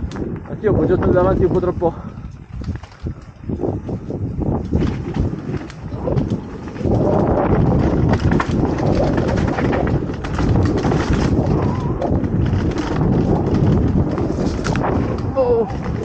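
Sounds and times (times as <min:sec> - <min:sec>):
bike rattling and knocking: 0:00.0 - 0:16.0
bike tyres rumbling over dirt: 0:00.0 - 0:16.0.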